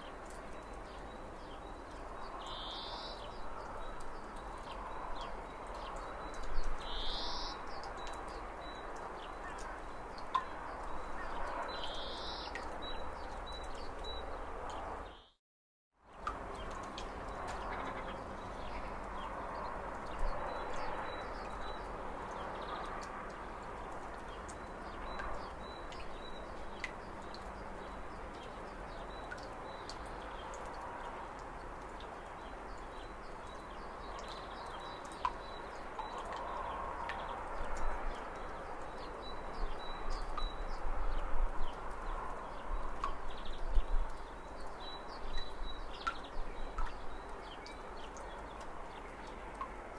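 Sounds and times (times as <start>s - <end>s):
outdoor background hiss: 0.0s - 15.3s, 16.0s - 49.9s.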